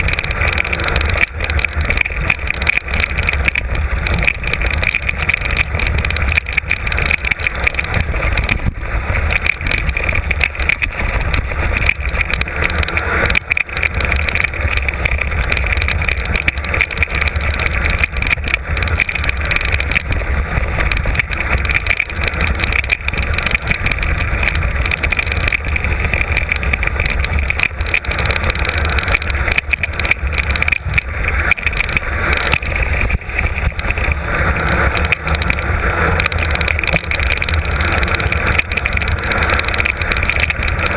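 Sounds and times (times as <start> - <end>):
bike rattling over rough ground: 0.0 - 40.9
wind on microphone: 0.0 - 40.9.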